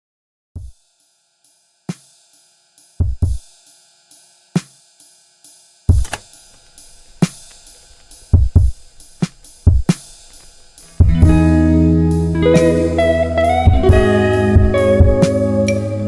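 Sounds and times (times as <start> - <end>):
drum kit beat: 0.6 - 0.8, 1.9 - 16.0.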